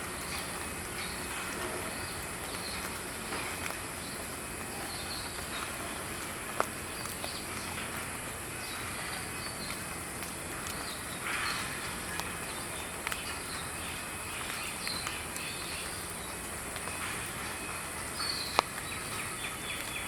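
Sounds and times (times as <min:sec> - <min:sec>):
outdoor ambience: 0:00.0 - 0:20.0.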